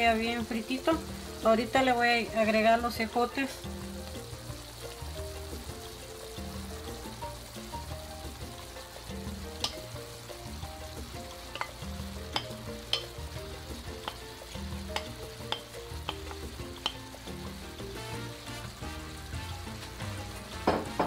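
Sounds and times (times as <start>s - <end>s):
soft background music: 0.0s - 21.0s
vegetables sizzling in a pan: 0.0s - 21.0s.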